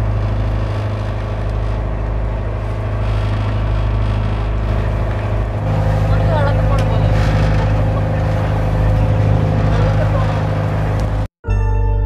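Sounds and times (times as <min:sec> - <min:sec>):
boat engine droning: 0:00.0 - 0:11.3.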